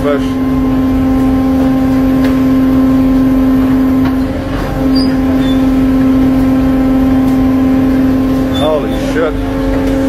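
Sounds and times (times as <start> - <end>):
boat machinery humming: 0.0 - 10.0.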